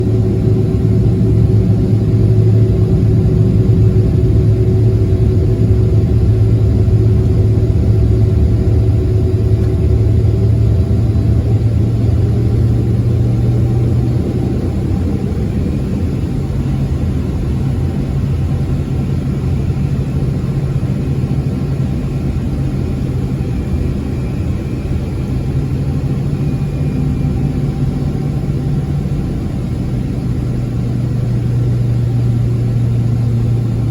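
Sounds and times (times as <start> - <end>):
jet engines rumbling in cabin: 0.0 - 33.9.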